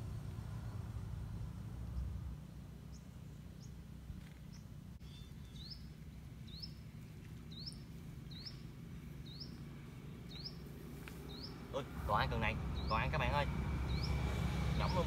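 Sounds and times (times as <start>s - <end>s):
low outdoor background rumble: 0.0s - 15.0s
small bird chirping: 1.9s - 15.0s.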